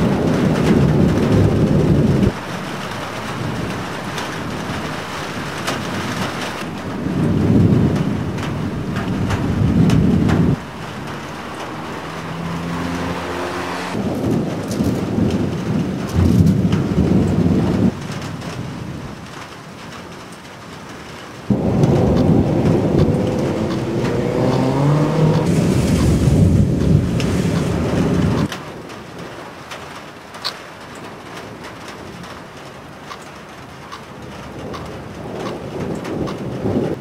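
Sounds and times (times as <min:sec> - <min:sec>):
thunder rumbling: 0:00.0 - 0:20.2, 0:21.4 - 0:29.3, 0:34.2 - 0:37.0
heavy rain: 0:00.0 - 0:37.0.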